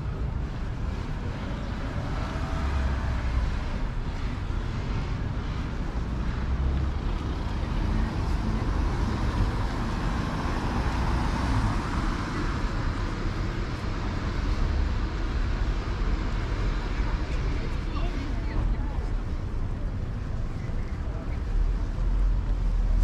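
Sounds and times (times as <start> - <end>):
low traffic rumble: 0.0 - 23.0.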